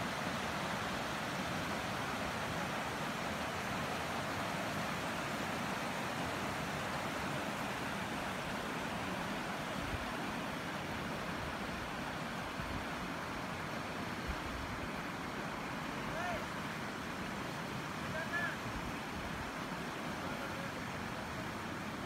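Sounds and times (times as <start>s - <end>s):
river water rushing over rocks: 0.0s - 22.0s.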